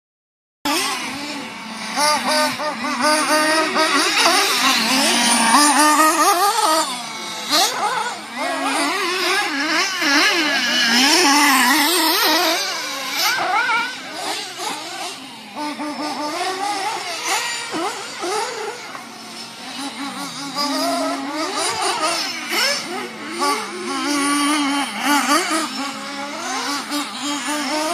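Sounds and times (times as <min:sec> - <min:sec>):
rc car motor revving: 0:00.7 - 0:27.9.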